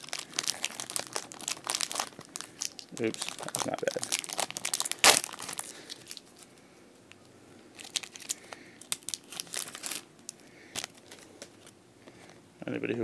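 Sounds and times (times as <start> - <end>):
foil wrapper crinkling: 0.0 - 6.6, 7.7 - 11.7.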